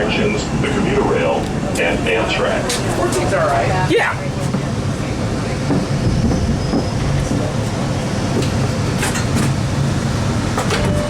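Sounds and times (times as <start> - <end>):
subway car rumble and hum: 0.0 - 11.0.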